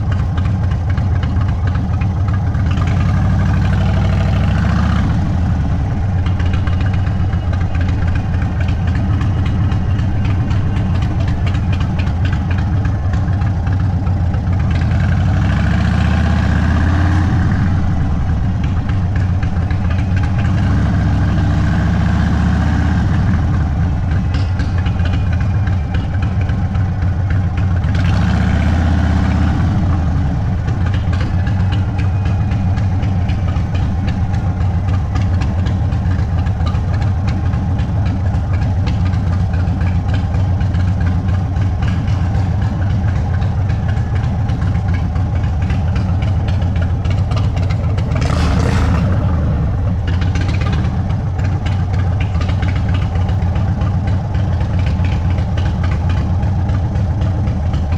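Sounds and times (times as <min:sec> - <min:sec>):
motorcycle engine idling: 0:00.0 - 0:57.9.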